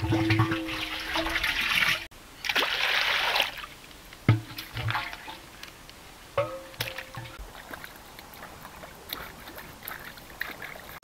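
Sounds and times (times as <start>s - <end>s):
water splashing and pouring: 0.0s - 5.6s, 6.4s - 11.0s.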